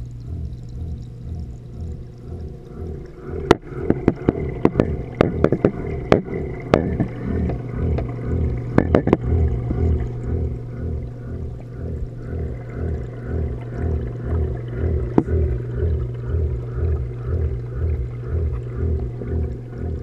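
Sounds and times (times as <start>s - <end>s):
aquarium pumps humming underwater: 0.0s - 20.0s
sharp clicks and knocks: 0.0s - 20.0s.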